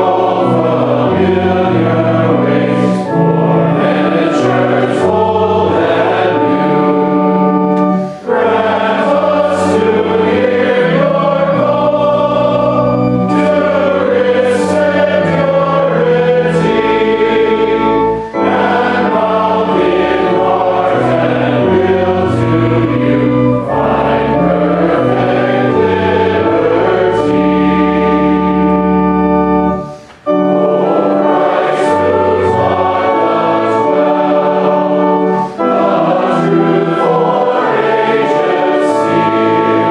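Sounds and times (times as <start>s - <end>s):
congregation singing a hymn: 0.0s - 39.9s
organ accompaniment: 0.0s - 39.9s.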